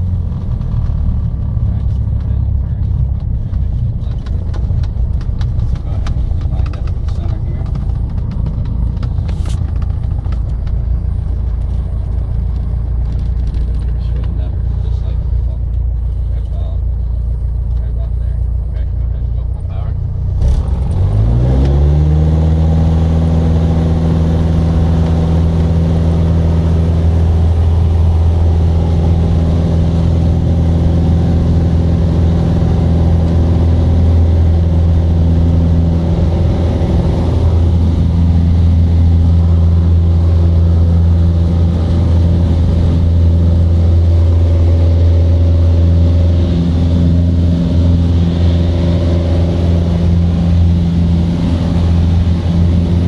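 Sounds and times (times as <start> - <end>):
light airplane engine droning: 0.0 - 53.0.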